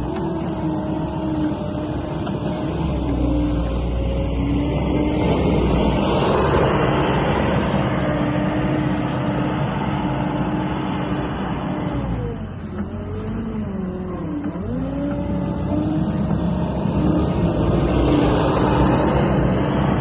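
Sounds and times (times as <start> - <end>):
diesel engine running at high revs: 0.0 - 20.0.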